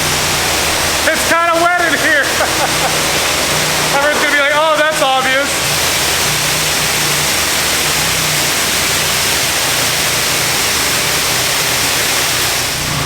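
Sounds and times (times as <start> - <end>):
water jets spraying a car: 0.0 - 13.0.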